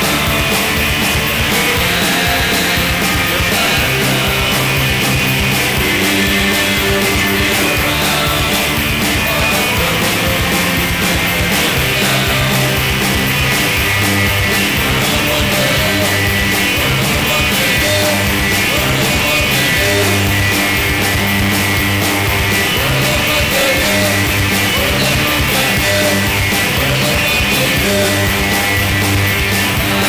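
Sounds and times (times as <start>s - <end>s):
rock song with bass and drums: 0.0s - 30.0s.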